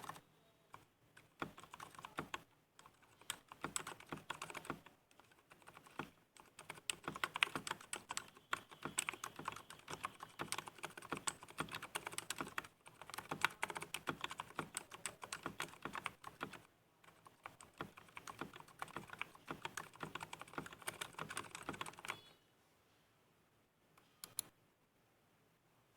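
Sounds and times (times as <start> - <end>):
fast typing on keyboard: 0.0 - 0.2, 1.2 - 22.2.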